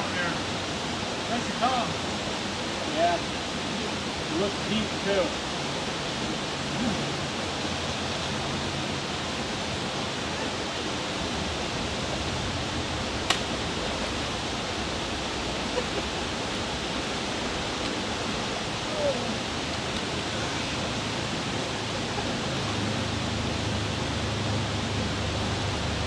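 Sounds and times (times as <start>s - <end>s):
water rushing through culvert: 0.0s - 26.0s.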